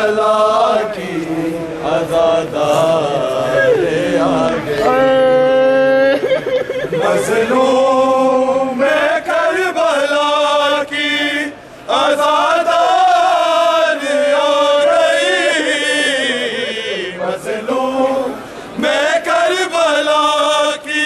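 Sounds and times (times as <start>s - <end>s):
men chanting a lament: 0.0s - 5.8s, 7.0s - 21.0s.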